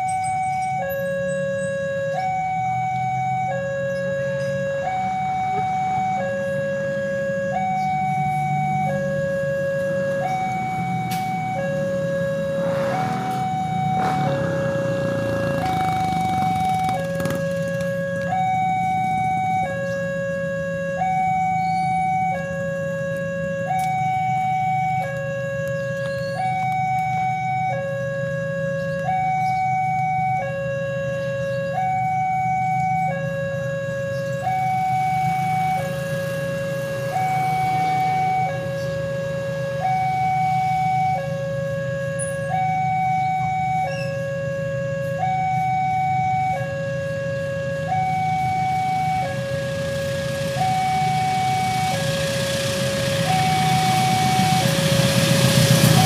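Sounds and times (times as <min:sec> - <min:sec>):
level-crossing two-tone alarm: 0:00.0 - 0:56.0
road traffic rumble: 0:00.0 - 0:56.0.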